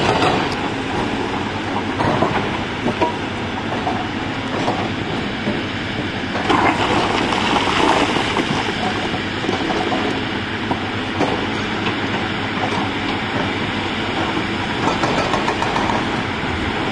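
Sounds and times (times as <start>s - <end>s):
excavator diesel engine: 0.0s - 16.9s.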